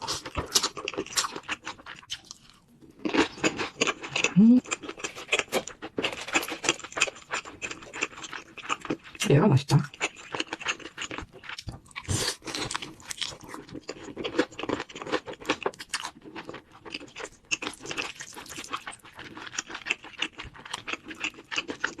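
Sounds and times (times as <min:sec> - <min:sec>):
person chewing crunchy food: 0:00.0 - 0:09.2, 0:09.8 - 0:22.0.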